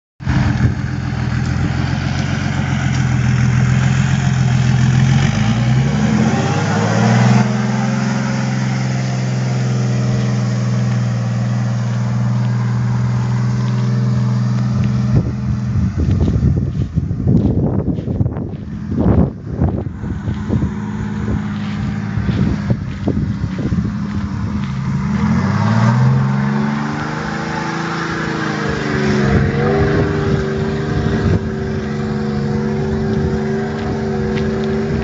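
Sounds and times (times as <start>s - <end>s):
truck engine revving: 0.2s - 35.0s
rough uneven noise: 0.3s - 35.0s.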